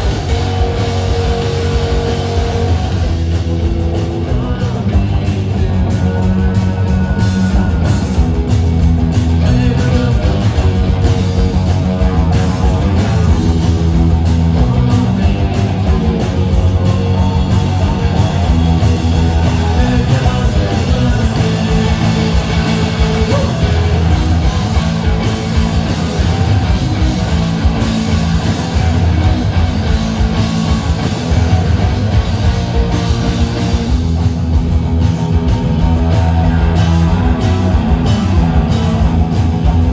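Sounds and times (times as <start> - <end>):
rock band playing loud: 0.0 - 39.9.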